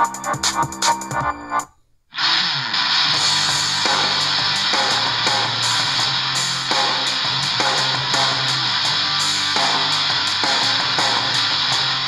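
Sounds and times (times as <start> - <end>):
rock music through radio speaker: 0.0 - 12.0.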